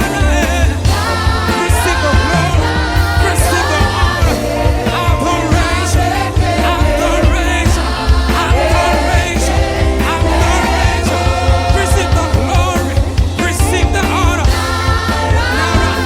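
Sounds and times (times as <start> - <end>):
band with heavy bass and drums: 0.0 - 16.0
voices singing: 0.0 - 16.0.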